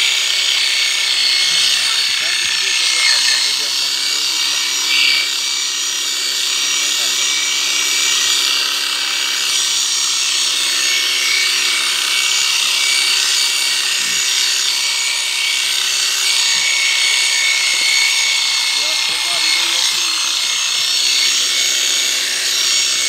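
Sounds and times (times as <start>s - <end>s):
electric clipper shearing fleece: 0.0s - 23.0s.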